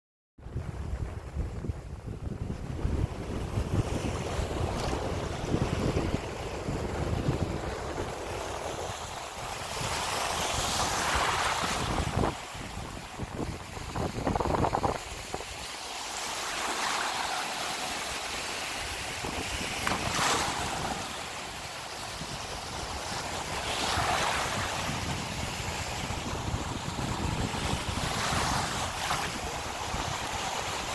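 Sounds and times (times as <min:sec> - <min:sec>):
wind buffeting microphone: 0:00.4 - 0:15.7, 0:18.7 - 0:30.9
small waves washing onto sand: 0:00.8 - 0:30.9.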